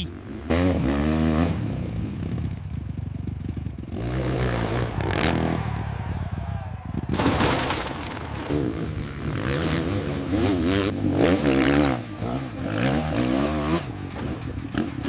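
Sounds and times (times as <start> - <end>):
dirt bike engine revving: 0.0 - 7.4, 8.3 - 15.0.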